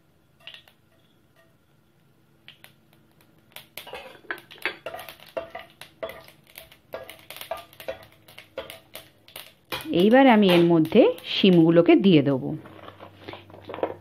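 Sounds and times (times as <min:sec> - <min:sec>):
mustard seeds popping in hot oil: 0:00.0 - 0:14.0.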